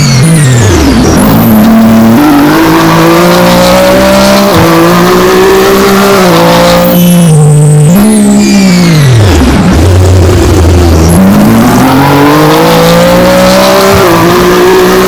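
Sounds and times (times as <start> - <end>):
engine at high revs: 0.0 - 15.0.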